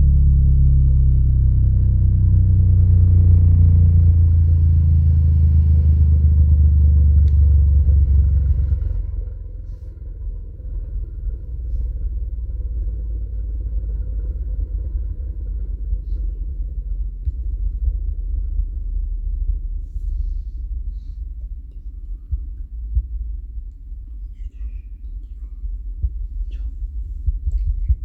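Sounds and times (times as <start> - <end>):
subwoofer deep bass rumble: 0.0 - 28.0.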